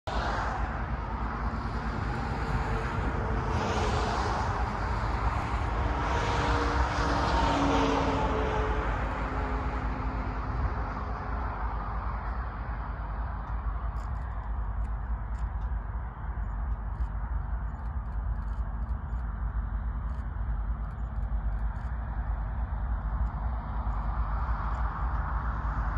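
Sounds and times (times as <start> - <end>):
wind rumbling on microphone: 0.0 - 25.9
passing vehicle hum: 0.1 - 25.9.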